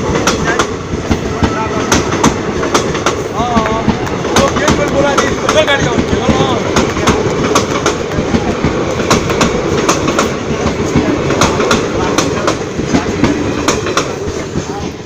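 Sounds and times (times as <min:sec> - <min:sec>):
heavy train rumble: 0:00.0 - 0:15.0
train wheels clickety-clack: 0:00.0 - 0:15.0.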